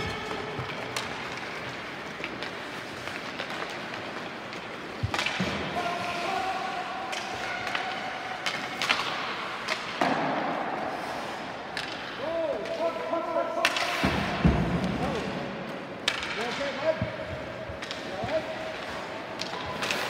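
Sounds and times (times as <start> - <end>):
sharp knocks of sticks and puck: 0.0 - 5.8, 6.9 - 10.8, 11.6 - 12.9, 13.5 - 20.0
skates scraping ice: 0.0 - 20.0.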